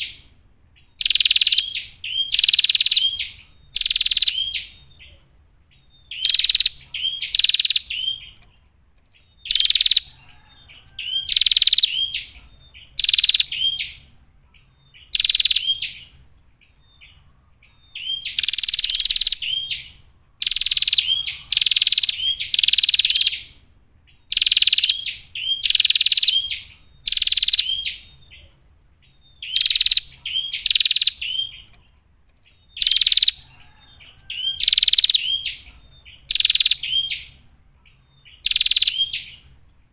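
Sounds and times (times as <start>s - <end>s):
bird chattering calls: 0.8s - 8.6s, 9.2s - 23.6s, 24.2s - 28.5s, 29.1s - 39.5s.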